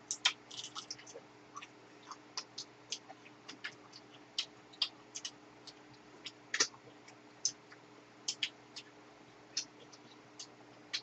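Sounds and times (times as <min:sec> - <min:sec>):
faint steady hum: 0:00.0 - 0:11.0
chewing mouth noises: 0:00.1 - 0:08.9.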